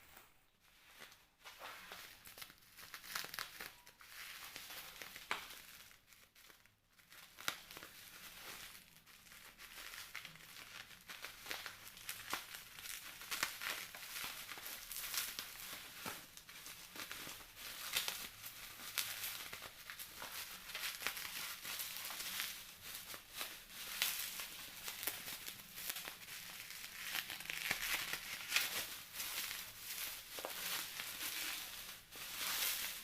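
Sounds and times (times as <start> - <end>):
plastic packaging crinkling: 1.6 - 33.0.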